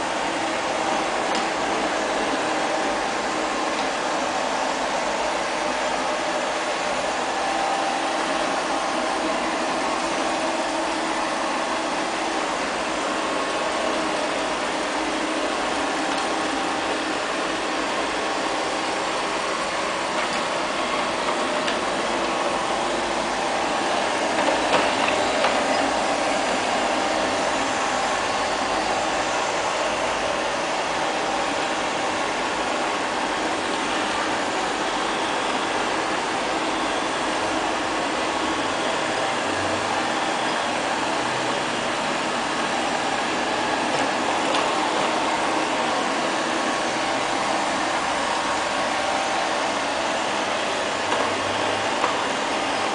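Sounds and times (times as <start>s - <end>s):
robot vacuum cleaner whirring: 0.0s - 52.9s.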